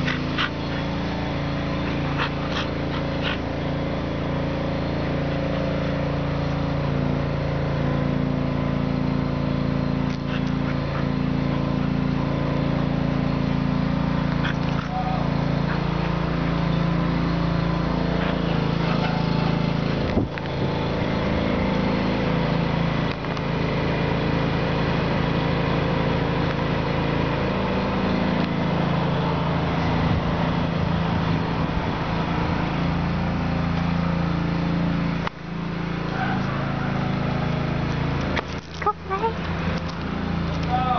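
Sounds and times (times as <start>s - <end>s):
motor droning: 0.0s - 40.9s.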